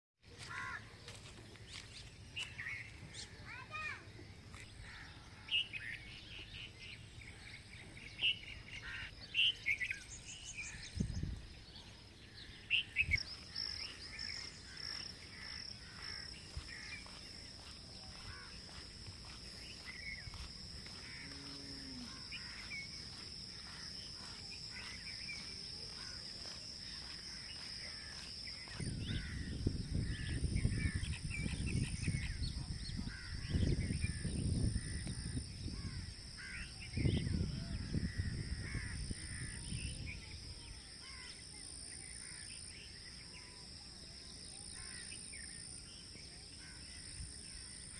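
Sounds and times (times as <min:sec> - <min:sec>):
birds chirping and calling: 0:00.4 - 0:40.4.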